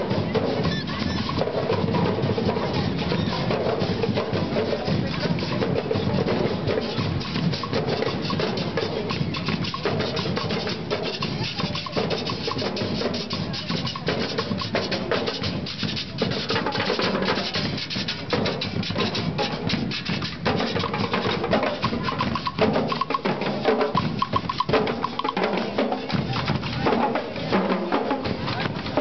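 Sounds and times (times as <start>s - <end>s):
marching drum line: 0.0s - 29.0s.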